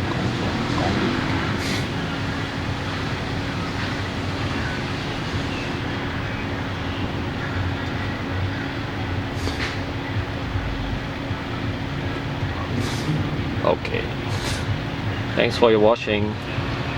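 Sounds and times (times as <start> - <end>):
vehicle cabin hum: 0.0 - 16.9.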